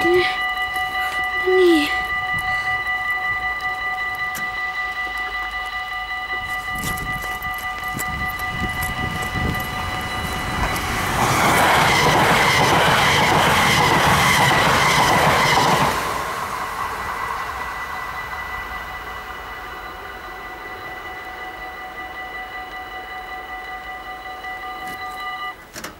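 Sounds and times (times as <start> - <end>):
train wheels rushing on rails: 0.0 - 25.0
level crossing warning bells: 0.0 - 25.9.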